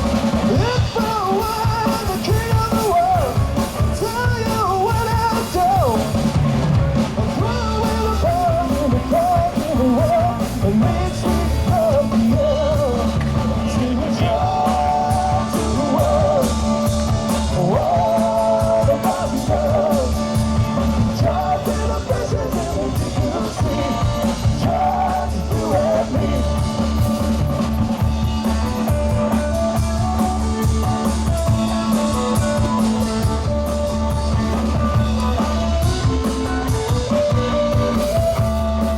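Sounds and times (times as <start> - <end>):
rock band playing: 0.0 - 38.9
person singing: 0.4 - 6.2, 7.2 - 37.7.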